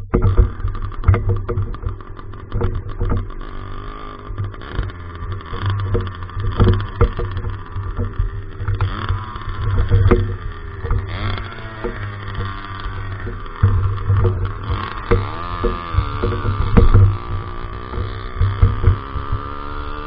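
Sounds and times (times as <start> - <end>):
short knocks: 0.0 - 19.7
two-stroke bicycle engine running: 0.0 - 20.0.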